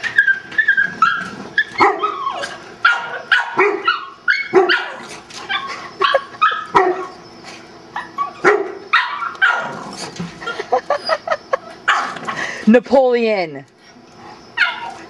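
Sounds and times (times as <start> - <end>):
dog barking and yipping: 0.0 - 7.2, 7.9 - 12.4, 14.6 - 15.0.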